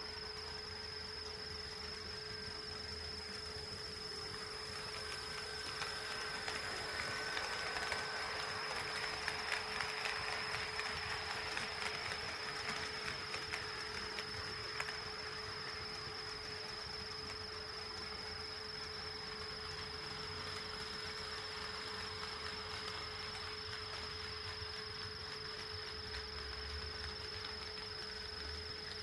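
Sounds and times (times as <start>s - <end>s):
steady high whine: 0.0s - 29.0s
model train wheels ticking: 1.6s - 29.0s.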